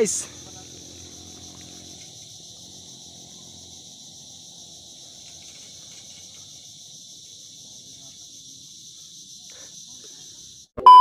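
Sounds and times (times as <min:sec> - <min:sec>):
insects chirring in grass: 0:00.0 - 0:10.7.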